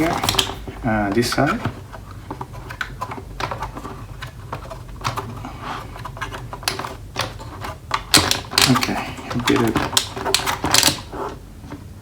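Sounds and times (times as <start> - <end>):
screwdriver clicking on plastic: 0.0 - 0.7, 1.5 - 11.4.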